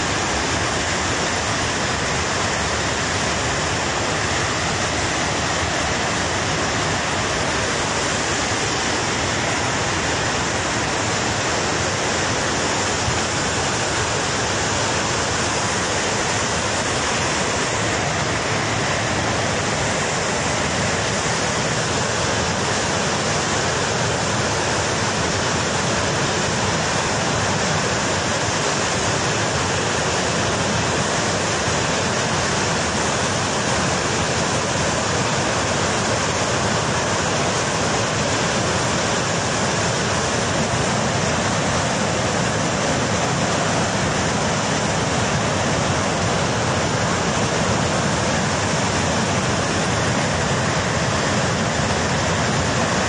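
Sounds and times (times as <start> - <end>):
rushing flood water: 0.0 - 53.0.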